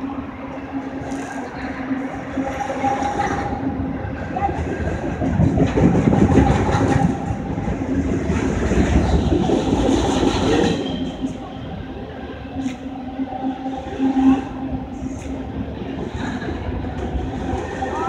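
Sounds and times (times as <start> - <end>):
freight train rolling past: 0.0 - 18.0
steel wheels rumbling on rails: 0.0 - 18.0.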